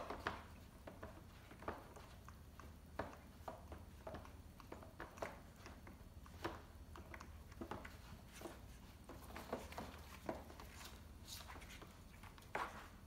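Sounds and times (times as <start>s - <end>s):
low room hum: 0.0s - 13.0s
puppy claws tapping on tile: 0.0s - 13.0s.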